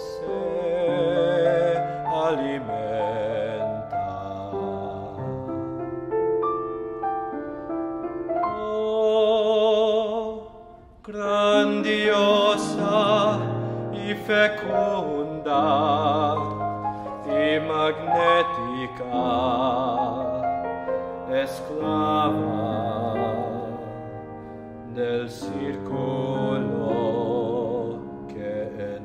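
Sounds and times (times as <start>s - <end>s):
baritone singing with vibrato: 0.0s - 5.9s, 8.4s - 29.0s
piano accompaniment: 0.0s - 29.0s.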